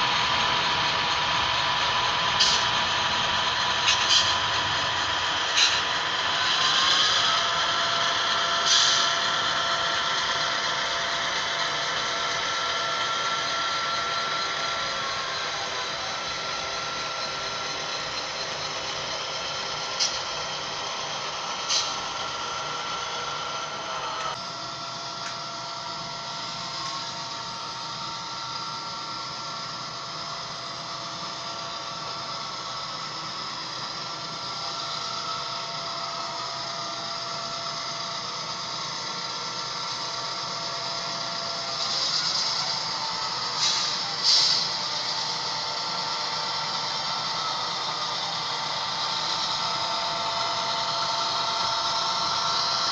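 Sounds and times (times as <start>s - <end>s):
model diesel engine sound: 0.0s - 52.9s
model train running on track: 0.0s - 52.9s.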